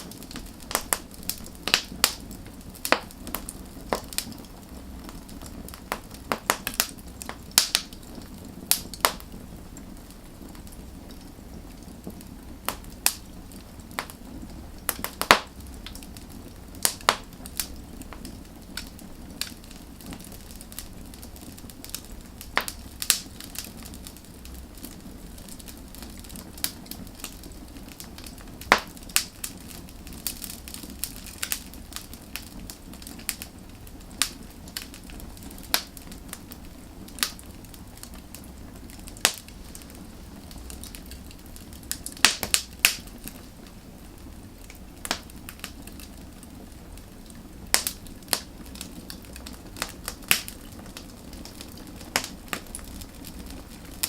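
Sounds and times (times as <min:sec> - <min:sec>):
logs crackling and popping: 0:00.0 - 0:54.0
wood fire hissing and rumbling: 0:00.0 - 0:54.0.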